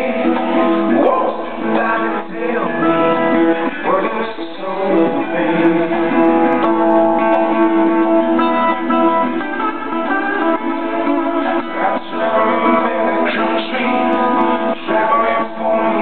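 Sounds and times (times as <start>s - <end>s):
live blues rock band: 0.0s - 16.0s
person singing: 0.0s - 16.0s
slide guitar melody: 0.0s - 16.0s.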